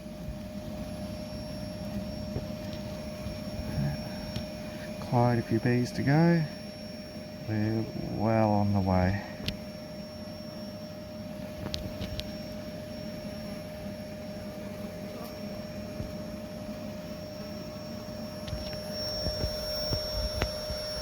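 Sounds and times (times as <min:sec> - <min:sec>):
vacuum whirring and whining: 0:00.0 - 0:21.0.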